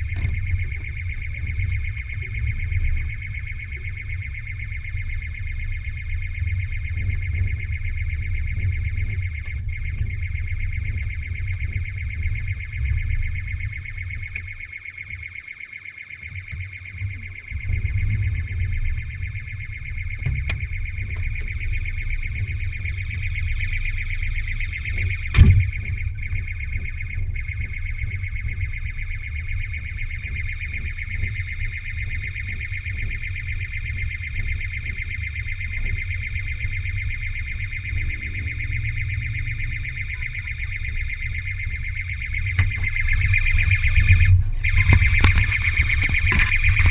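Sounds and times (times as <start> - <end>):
car alarm pulsing tone: 0.0 - 46.9.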